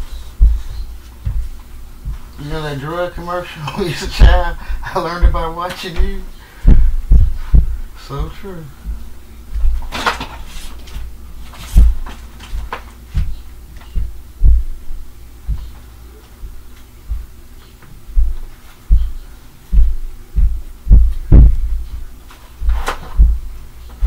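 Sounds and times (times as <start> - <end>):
heavy thuds through ceiling: 0.0 - 2.6, 4.0 - 24.0.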